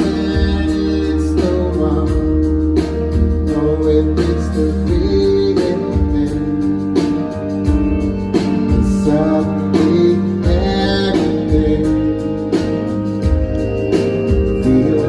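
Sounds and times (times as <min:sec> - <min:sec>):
man singing lead vocal: 0:00.0 - 0:07.5, 0:08.5 - 0:13.0, 0:14.4 - 0:15.0
live pop-soul band: 0:00.0 - 0:15.0.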